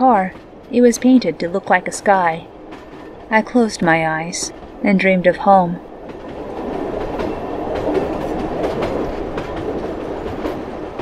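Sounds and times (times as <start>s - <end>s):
train clickety-clack on rails: 0.0s - 11.0s.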